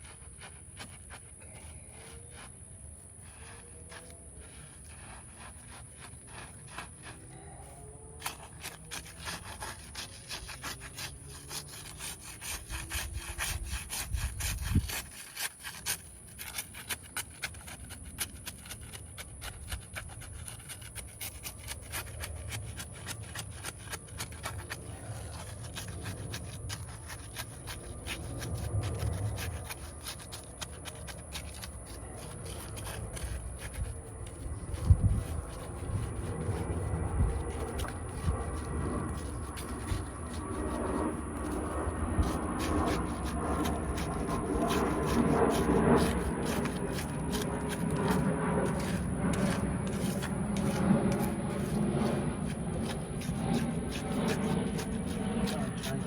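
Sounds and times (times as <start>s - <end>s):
concrete mix scraping: 0.0s - 56.0s.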